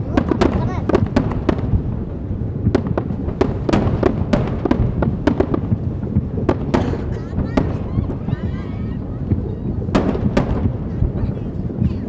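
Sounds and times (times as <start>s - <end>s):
fireworks bangs and crackles: 0.0s - 12.0s
low rumble: 0.0s - 12.0s.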